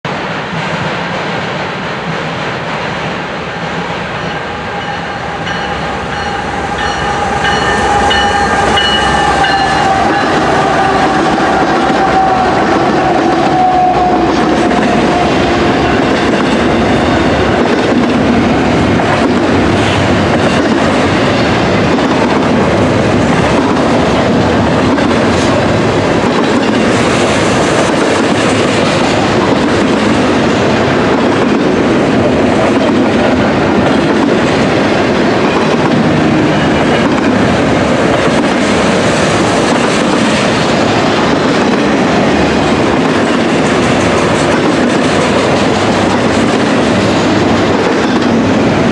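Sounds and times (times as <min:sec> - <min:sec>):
freight train wheels rushing and rattling: 0:00.0 - 0:48.9.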